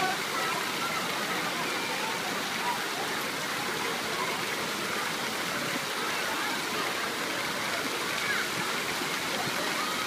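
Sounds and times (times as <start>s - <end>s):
splashing and running water: 0.0s - 10.0s.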